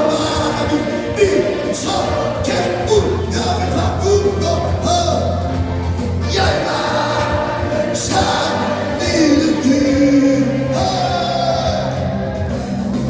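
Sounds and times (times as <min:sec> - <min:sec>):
choir singing: 0:00.0 - 0:13.0
instrumental accompaniment: 0:00.0 - 0:13.0.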